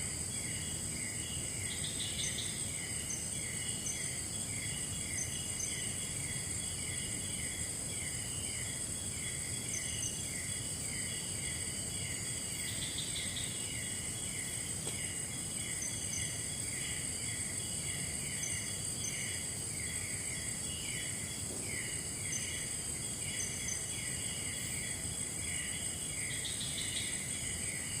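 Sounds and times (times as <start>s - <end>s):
insect chirps: 0.0s - 28.0s
insects droning: 0.0s - 28.0s.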